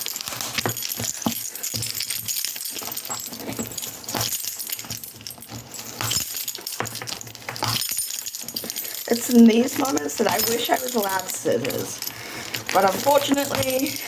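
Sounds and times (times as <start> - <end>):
key scraping packaging: 0.0 - 14.0
keys jangling: 0.0 - 14.0.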